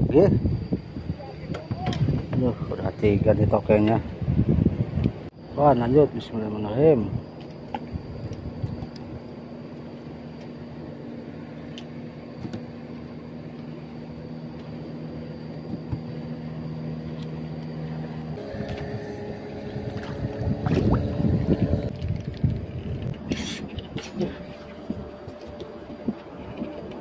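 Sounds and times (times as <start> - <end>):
small boat engine: 0.2 - 27.0.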